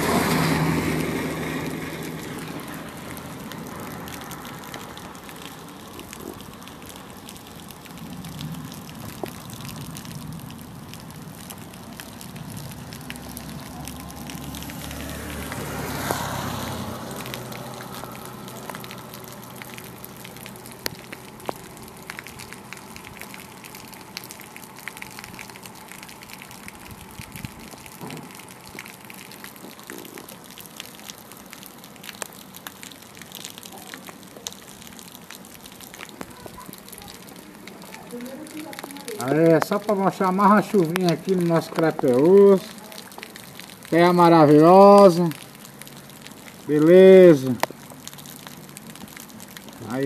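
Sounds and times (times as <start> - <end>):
rain on wet pavement: 0.0 - 50.0
raindrop ticks: 0.2 - 50.0.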